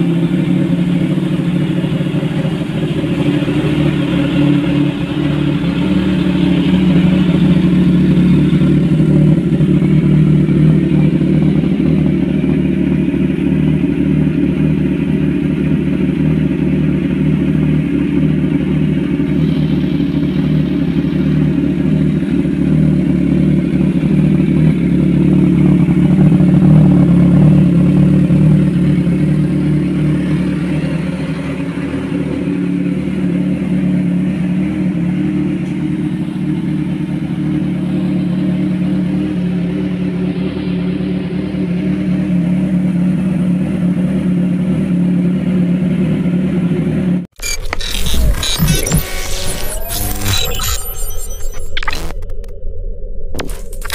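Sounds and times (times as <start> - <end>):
motorcycle engine idling: 0.0 - 47.3.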